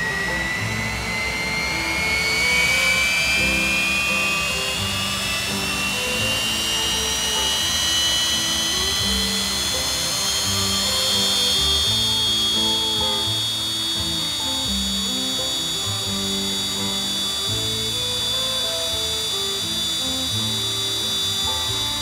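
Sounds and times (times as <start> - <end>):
jet engine whining: 0.0 - 22.0.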